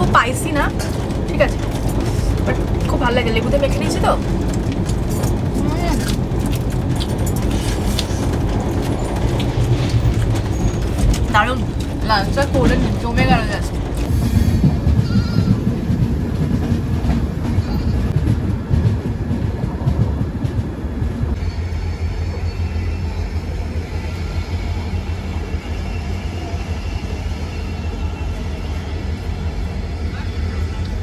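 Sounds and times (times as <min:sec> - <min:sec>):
train rumbling and clattering: 0:00.0 - 0:31.0.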